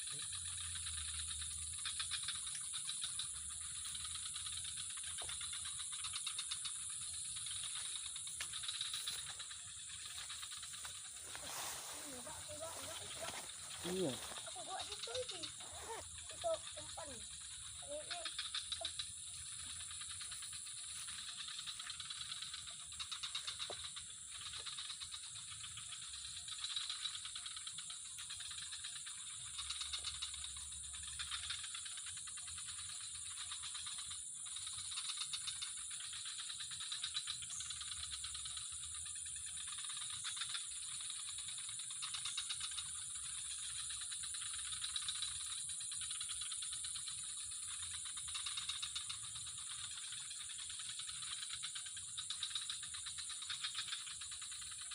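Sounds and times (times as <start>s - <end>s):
fast rattling trill of clicks: 0.0s - 11.4s, 12.0s - 54.9s.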